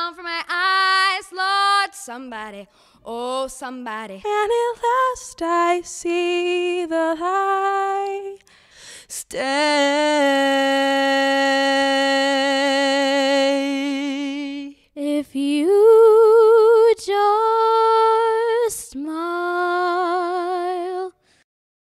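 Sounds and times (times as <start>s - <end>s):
girl singing with vibrato: 0.0s - 21.2s.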